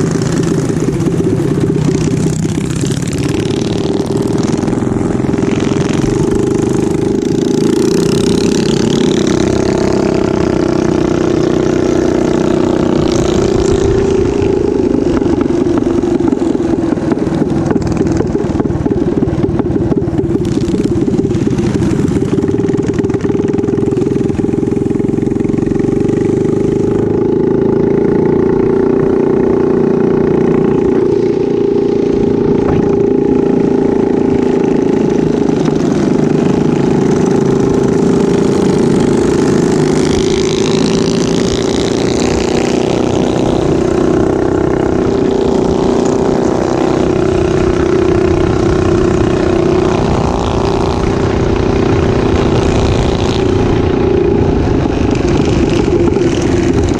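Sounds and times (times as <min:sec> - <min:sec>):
minibike engine running: 0:00.0 - 0:56.9
wind noise: 0:00.0 - 0:56.9.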